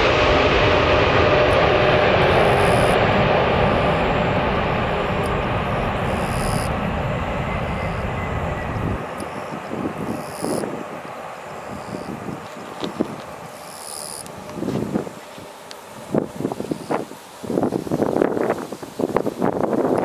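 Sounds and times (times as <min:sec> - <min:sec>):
jet engines passing overhead: 0:00.0 - 0:20.0.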